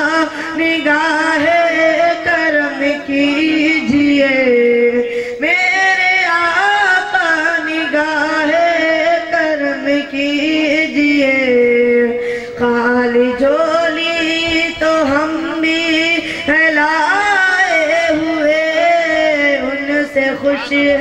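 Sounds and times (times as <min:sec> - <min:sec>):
boy singing solo: 0:00.0 - 0:21.0.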